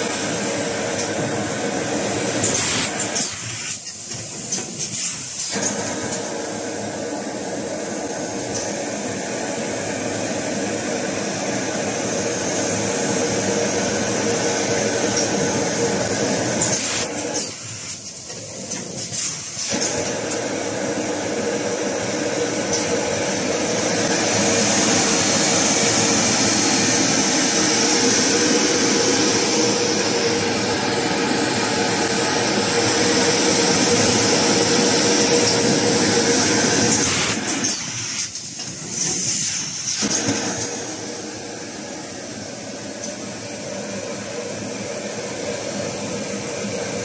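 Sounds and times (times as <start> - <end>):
bundling machine running: 0.0 - 47.0.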